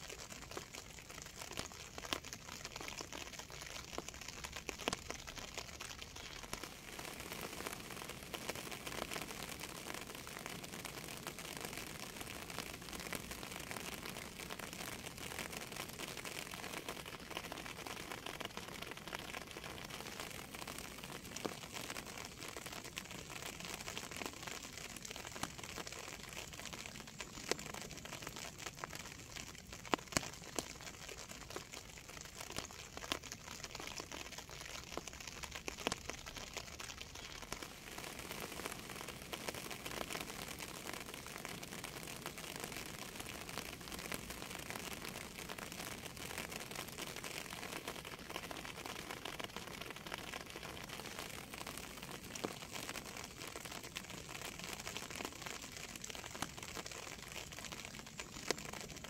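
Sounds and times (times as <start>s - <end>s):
raindrop ticks: 0.0s - 59.0s
steady rain hiss: 0.0s - 59.0s.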